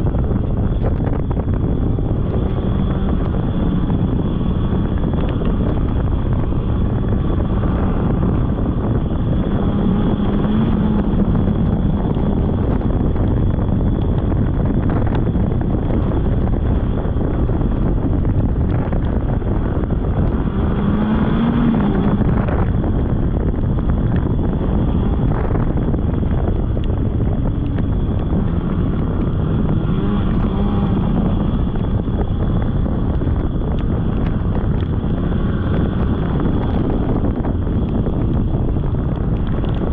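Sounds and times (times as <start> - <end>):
snowmobile engine running: 0.0 - 39.9
wind noise on microphone: 0.0 - 39.9.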